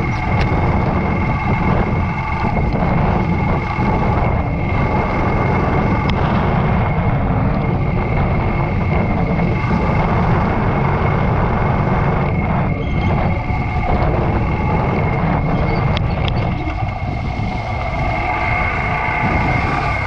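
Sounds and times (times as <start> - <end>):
motorcycle engine running: 0.0 - 20.0
road noise: 0.0 - 20.0.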